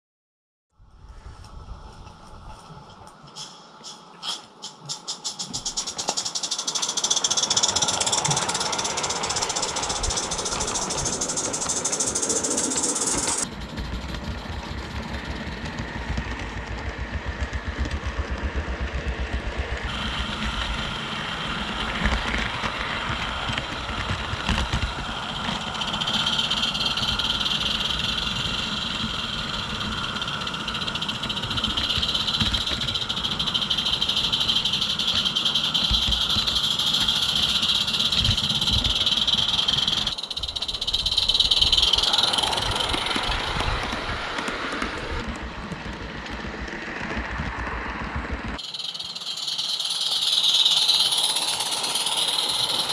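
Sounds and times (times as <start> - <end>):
high steady whine: 0.7 - 52.9
model train running on track: 4.6 - 52.9.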